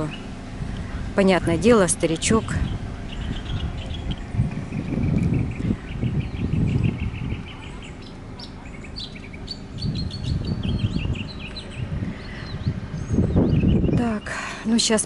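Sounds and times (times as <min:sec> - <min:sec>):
low rumble on microphone: 0:00.0 - 0:14.7
small birds chirping: 0:00.0 - 0:15.0.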